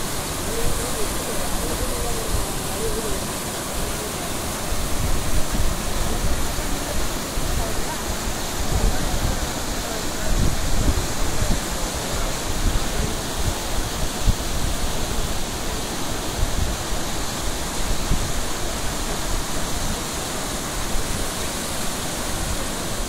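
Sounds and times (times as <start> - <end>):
water rushing over a dam: 0.0 - 23.0.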